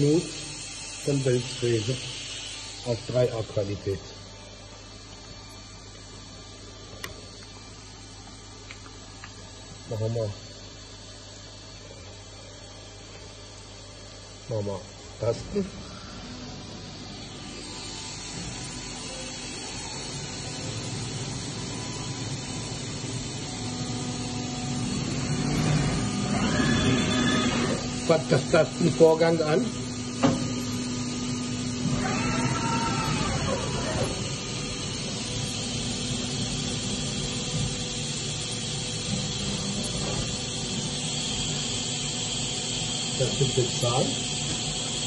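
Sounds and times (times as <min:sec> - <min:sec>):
faint machine whine: 0:00.0 - 0:45.0
machine hissing hum: 0:00.0 - 0:45.0.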